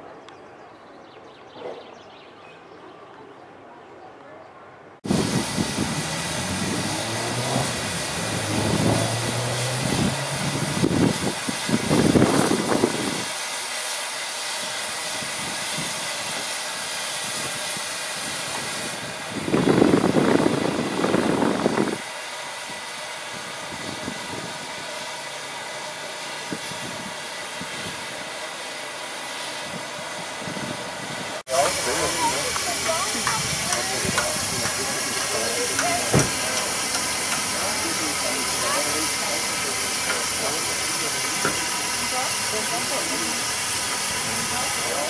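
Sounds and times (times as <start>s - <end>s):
steam hissing from locomotive: 5.0s - 45.0s
steam rushing bursts: 5.0s - 45.0s.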